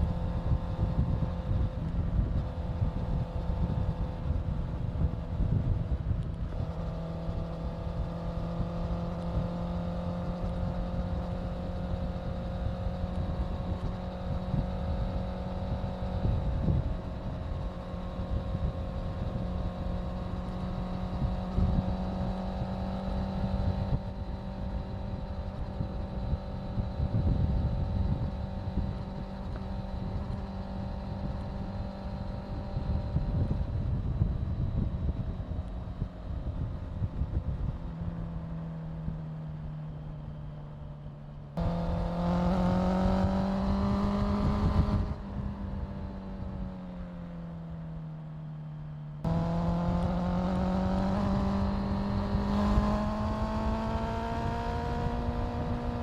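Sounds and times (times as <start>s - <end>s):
wind rumbling on microphone: 0.0s - 40.5s, 41.6s - 47.3s, 49.2s - 56.0s
motorcycle engine cruising: 0.0s - 56.0s.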